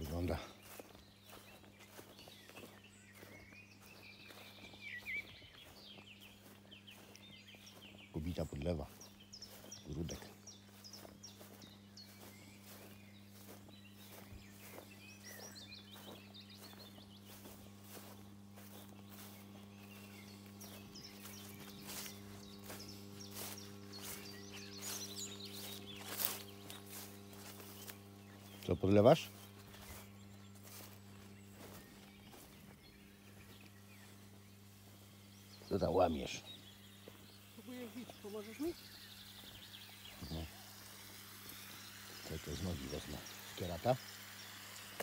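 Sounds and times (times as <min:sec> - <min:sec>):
rustles and steps: 0:00.0 - 0:41.8
soft footsteps: 0:00.0 - 0:43.3
birds warbling and chirping: 0:00.0 - 0:45.0
low steady hum: 0:00.0 - 0:45.0.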